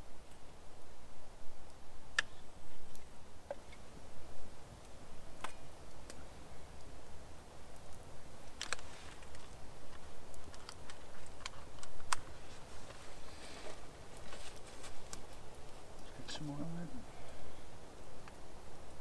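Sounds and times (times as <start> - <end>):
campfire crackling and popping: 0.2 - 19.0.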